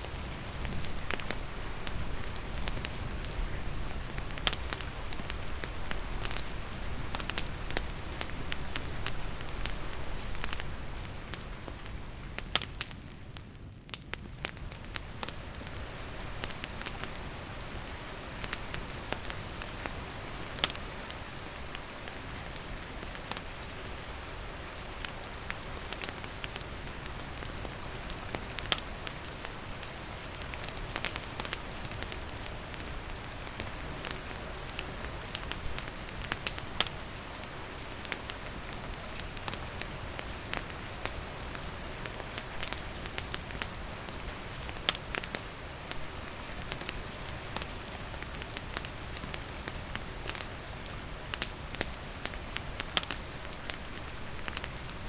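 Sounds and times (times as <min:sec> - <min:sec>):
campfire crackling and popping: 0:00.0 - 0:55.0
rain falling: 0:00.0 - 0:55.0.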